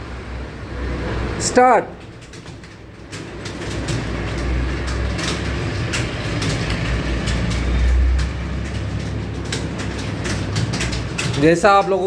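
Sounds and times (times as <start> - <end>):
many keyboards clattering: 0.9 - 12.0.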